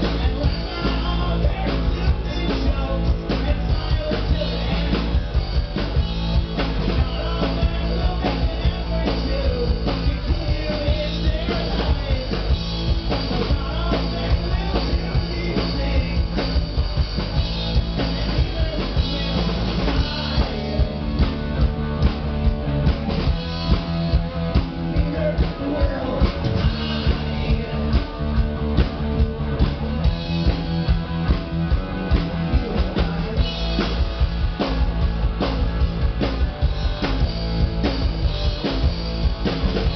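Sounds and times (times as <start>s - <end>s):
drum kit beat: 0.0s - 39.9s
rock band playing live: 0.0s - 39.9s.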